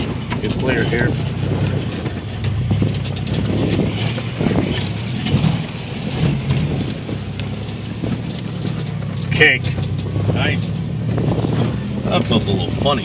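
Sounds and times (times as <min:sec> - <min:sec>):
knocks and rattles: 0:00.0 - 0:13.0
vehicle engine running: 0:00.0 - 0:13.0.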